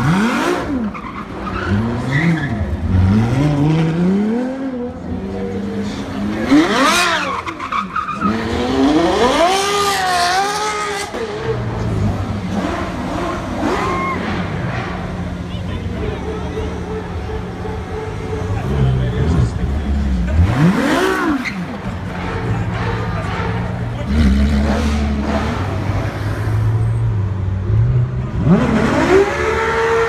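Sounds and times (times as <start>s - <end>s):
tyres squealing and skidding: 0.0s - 4.6s, 5.5s - 27.4s
car engine revving: 0.0s - 30.0s.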